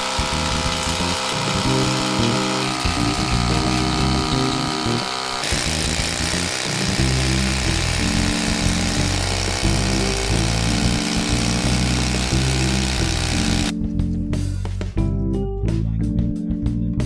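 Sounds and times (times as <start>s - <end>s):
hammer drill boring into brick: 0.0s - 13.7s
background music: 0.0s - 17.0s.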